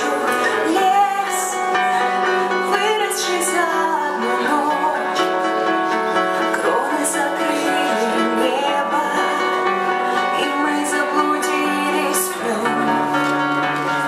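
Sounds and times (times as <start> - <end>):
band playing live: 0.0 - 14.0.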